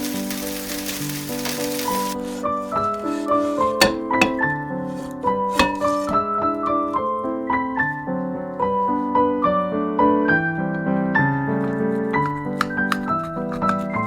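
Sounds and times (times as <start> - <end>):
light piano melody: 0.0 - 14.0.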